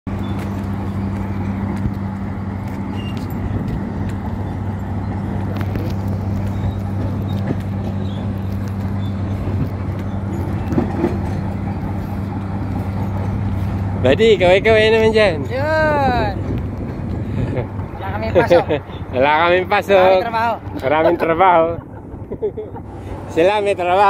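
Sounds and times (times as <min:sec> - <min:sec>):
low mechanical hum: 0:00.1 - 0:24.0
outdoor noise rush: 0:00.1 - 0:24.0.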